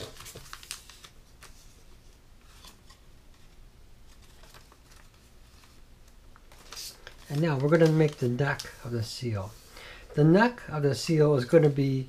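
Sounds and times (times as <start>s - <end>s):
paper rustling: 0.0s - 9.8s, 10.9s - 12.0s.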